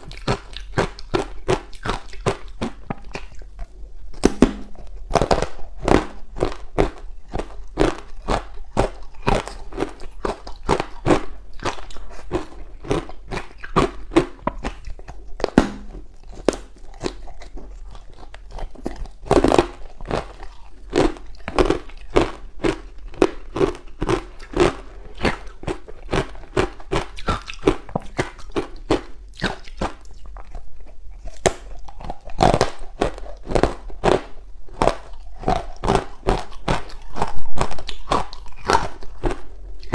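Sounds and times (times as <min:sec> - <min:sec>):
ice crunching while chewed: 0:00.0 - 0:04.1, 0:04.8 - 0:39.9.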